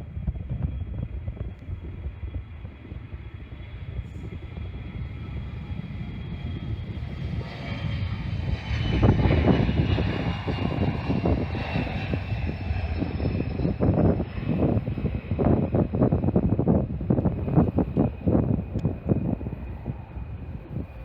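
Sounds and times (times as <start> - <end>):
jet airliner engine whine: 0.0 - 21.0
low rumble: 0.0 - 21.0.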